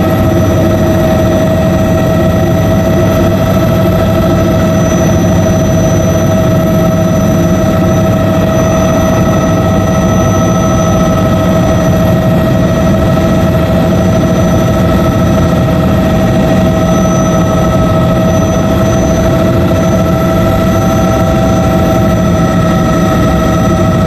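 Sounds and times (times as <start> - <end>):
helicopter drone: 0.0 - 24.0
steady whining tones: 0.0 - 24.0.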